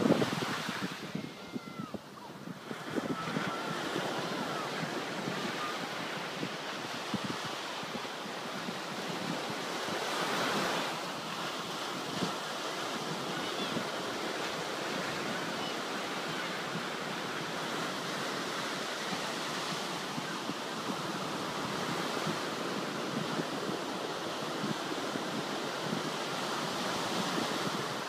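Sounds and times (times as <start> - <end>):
waves breaking on sand: 0.0 - 28.0.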